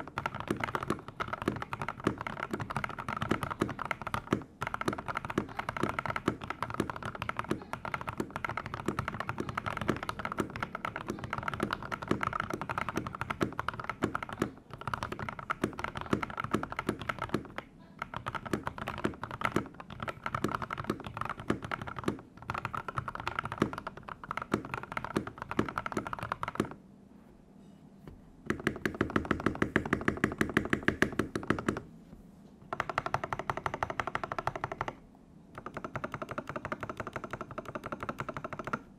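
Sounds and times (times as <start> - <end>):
mechanical keyboard typing: 0.0 - 26.8, 28.5 - 31.9, 32.7 - 38.9.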